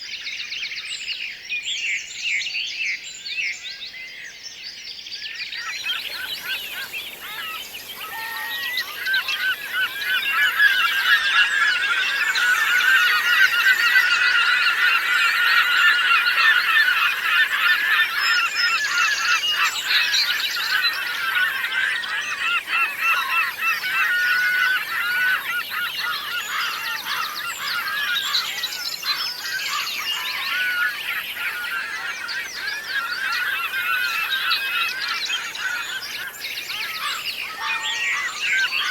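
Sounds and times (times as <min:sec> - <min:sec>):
flock of birds honking: 0:05.6 - 0:38.9.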